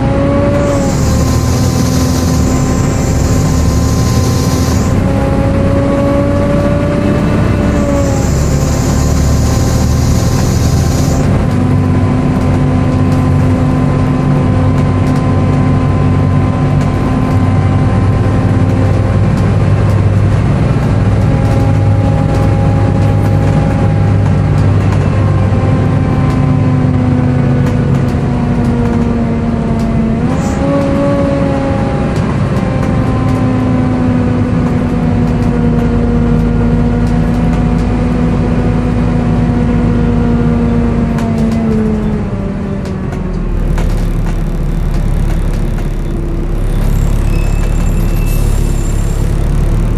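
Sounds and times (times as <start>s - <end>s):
screechy cooling fan whine: 0.0s - 42.5s
bus engine running: 0.0s - 49.9s.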